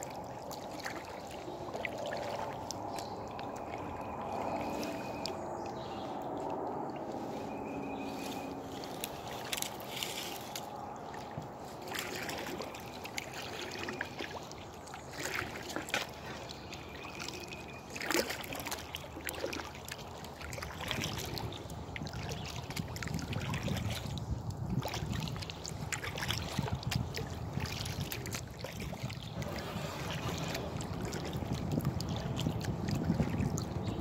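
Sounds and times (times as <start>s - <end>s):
water splash: 0.0s - 7.0s, 8.1s - 24.2s, 24.8s - 33.8s
water dripping from paddle: 0.0s - 7.1s, 7.8s - 34.0s
paddle strokes in water: 0.0s - 34.0s.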